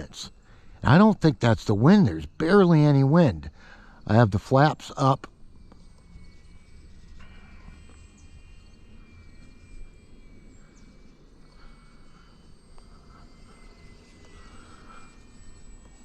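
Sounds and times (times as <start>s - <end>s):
model plane propeller whine: 0.0s - 16.0s.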